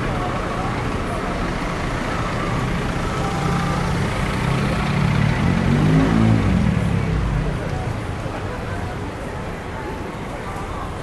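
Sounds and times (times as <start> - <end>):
vehicle engine humming: 0.0 - 9.2
street traffic: 0.0 - 11.0.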